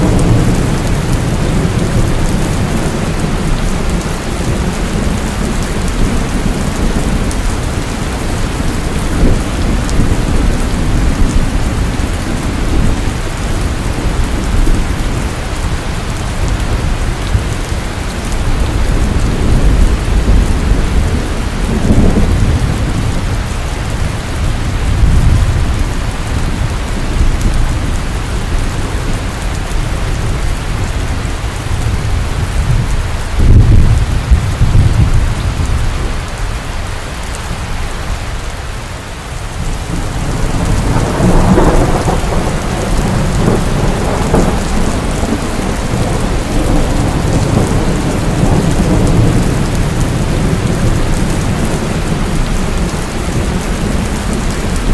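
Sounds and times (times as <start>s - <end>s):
thunder rumbling: 0.0s - 38.3s, 39.4s - 54.9s
heavy rain falling: 0.0s - 54.9s.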